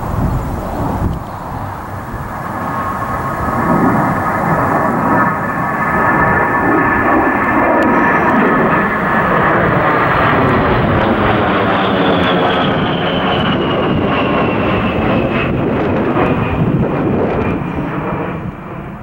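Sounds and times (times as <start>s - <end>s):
jet roar with high whine: 0.0s - 19.0s.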